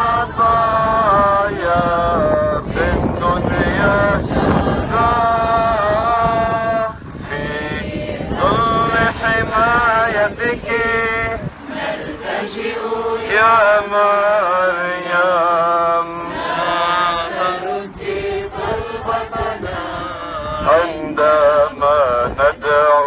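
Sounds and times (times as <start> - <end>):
voices singing a hymn: 0.0 - 23.0.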